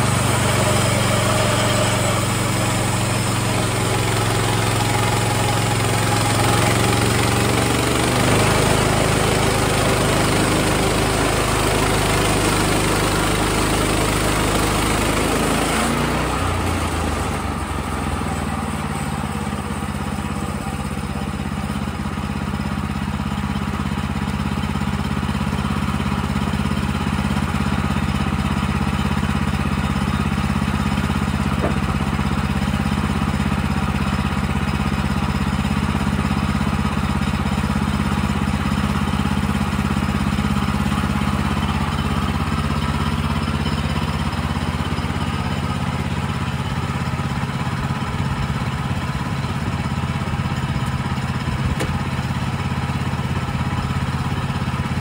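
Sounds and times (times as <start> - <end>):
small gasoline engine idling: 0.0 - 55.0.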